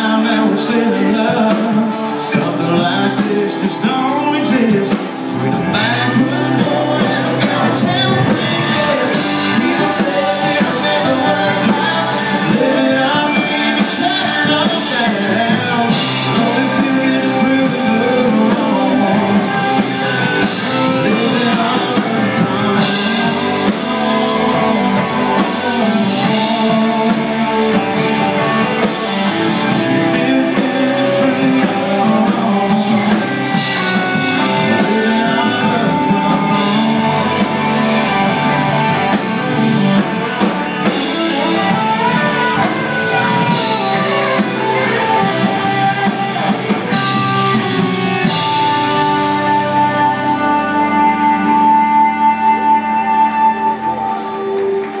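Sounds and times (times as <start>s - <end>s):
live country rock band: 0.0s - 55.0s.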